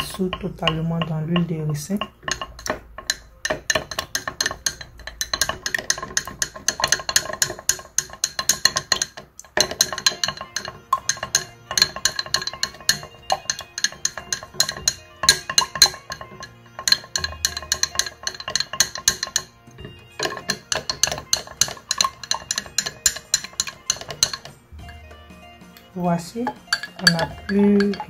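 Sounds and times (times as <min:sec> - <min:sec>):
stick clinking in glass beaker: 0:00.0 - 0:28.0.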